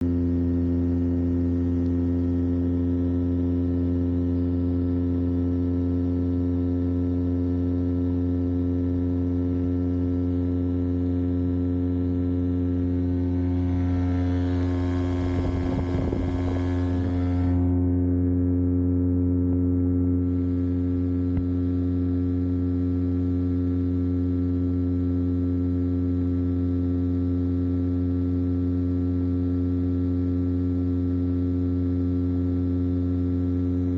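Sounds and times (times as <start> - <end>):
engine droning steadily: 0.0 - 33.9.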